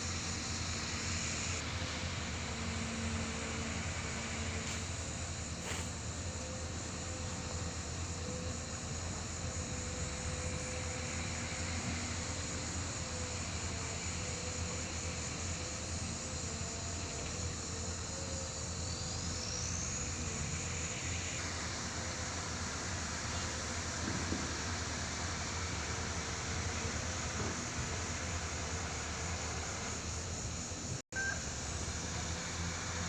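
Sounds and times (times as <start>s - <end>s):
diesel engine low drone: 0.0s - 33.0s.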